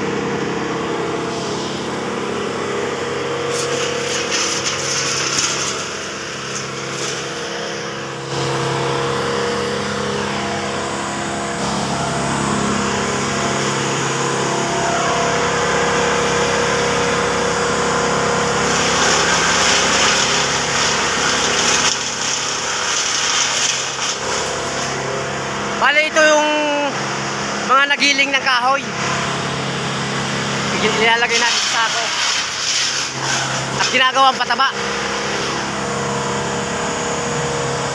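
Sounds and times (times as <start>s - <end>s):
wood chipper grinding branches: 0.0s - 37.9s.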